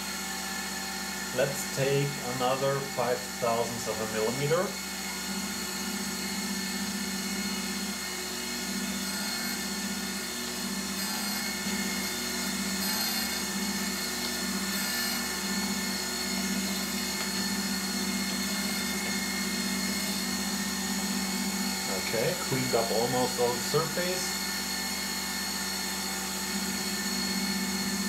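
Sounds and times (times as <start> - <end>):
surface grinder whining: 0.0 - 28.0.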